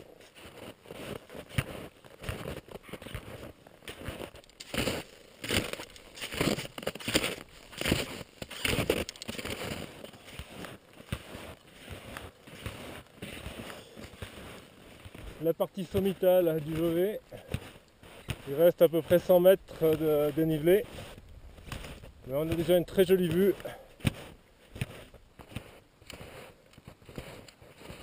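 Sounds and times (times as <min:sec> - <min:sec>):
skis sliding and crunching on snow: 0:00.0 - 0:28.0.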